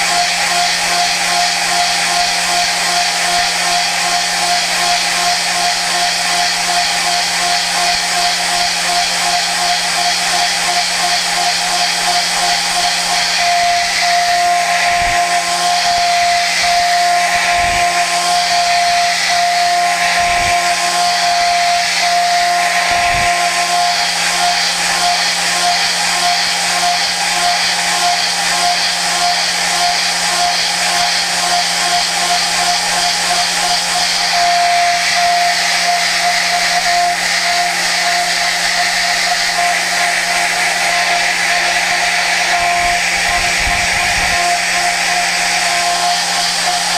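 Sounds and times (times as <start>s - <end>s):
machine hum and hiss: 0.0s - 46.9s
milling machine high-pitched tone: 0.0s - 46.9s.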